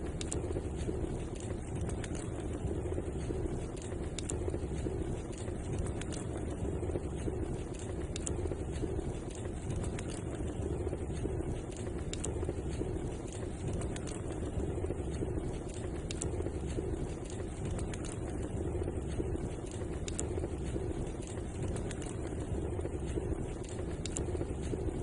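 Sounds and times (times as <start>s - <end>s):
fire crackling and popping: 0.0s - 25.0s
low fire roar: 0.0s - 25.0s.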